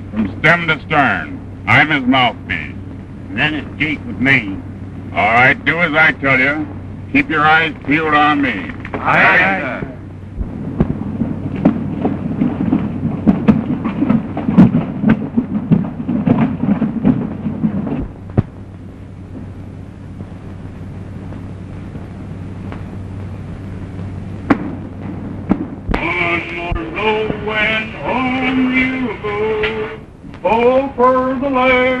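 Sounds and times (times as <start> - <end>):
film soundtrack hiss and clicks: 0.0 - 32.0
low rumbling with crackles and pops: 0.0 - 32.0.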